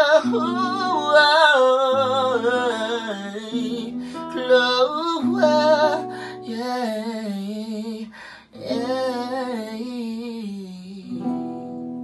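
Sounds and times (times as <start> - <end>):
person singing wordless oh: 0.0 - 11.1
acoustic guitar: 0.0 - 12.0.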